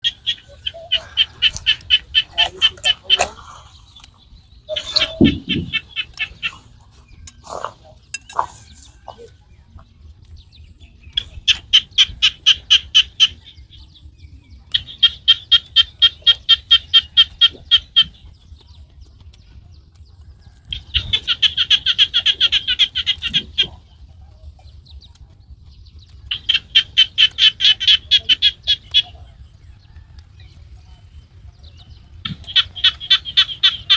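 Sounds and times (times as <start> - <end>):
bird chattering: 0.0 - 9.4, 11.0 - 14.0, 14.6 - 19.0, 20.4 - 29.9, 30.9 - 33.9.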